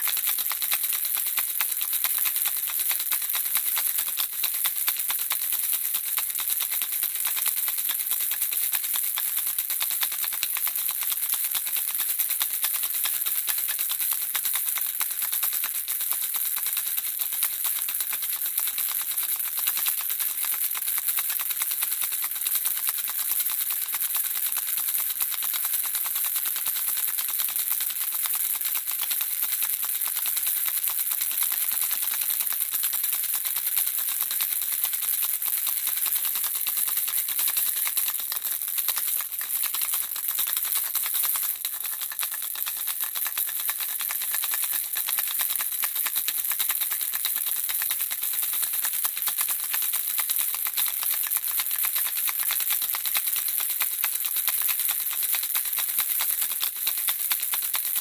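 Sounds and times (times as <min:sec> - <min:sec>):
baby rattle shaking: 0:00.0 - 0:58.0.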